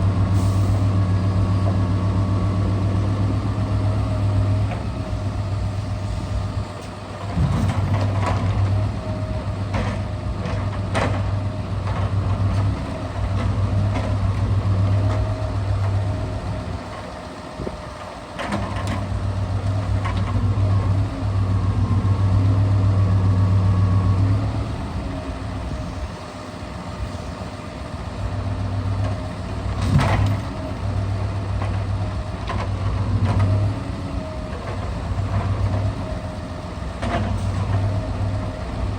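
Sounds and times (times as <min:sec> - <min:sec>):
diesel truck engine humming: 0:00.0 - 0:18.4, 0:19.0 - 0:38.9.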